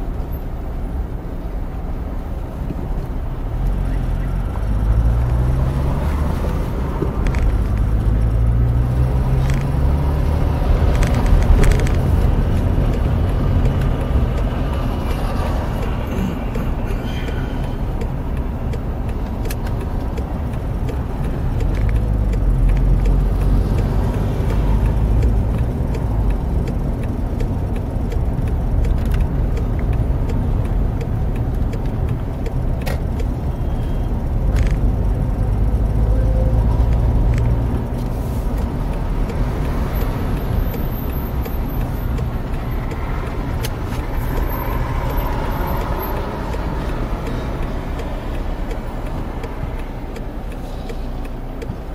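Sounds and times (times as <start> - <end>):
vehicle engine rumble: 0.0 - 51.9.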